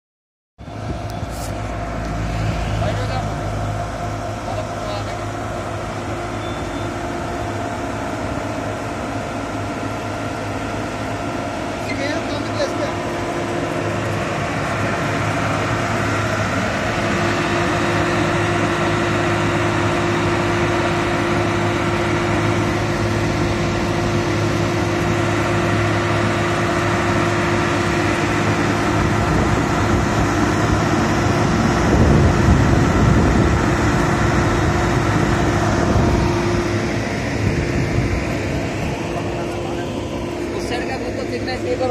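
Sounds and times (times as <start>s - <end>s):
constant machine whine: 0.6s - 41.9s
deep rumble: 0.6s - 41.9s
diesel engine running: 0.6s - 41.9s.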